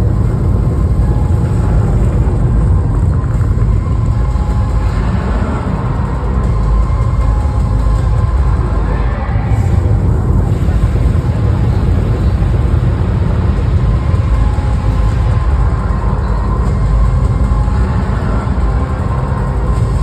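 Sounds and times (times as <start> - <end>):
bass-heavy music over sound system: 0.0 - 20.0.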